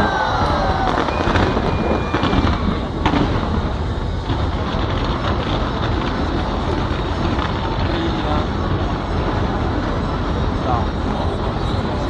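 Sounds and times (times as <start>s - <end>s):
sharp firework crack: 0.0s - 10.6s
fireworks booming: 0.0s - 12.0s.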